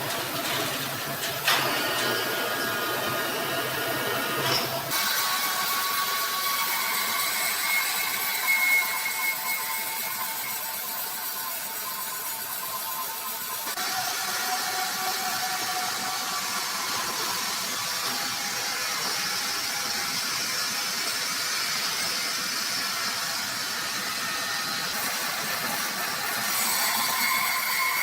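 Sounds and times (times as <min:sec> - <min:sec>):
sawmill machinery running: 0:00.0 - 0:28.0.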